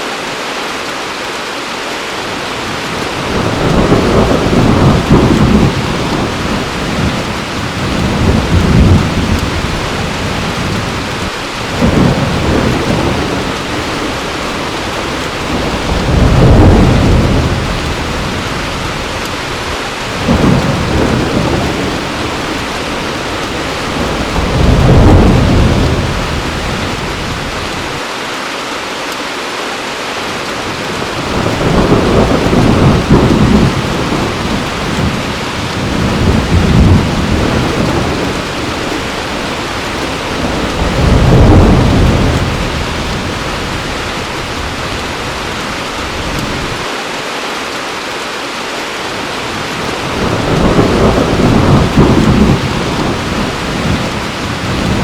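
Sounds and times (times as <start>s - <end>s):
heavy rain falling: 0.0s - 55.0s
rolling thunder: 2.7s - 28.0s, 30.7s - 46.8s, 49.6s - 55.0s.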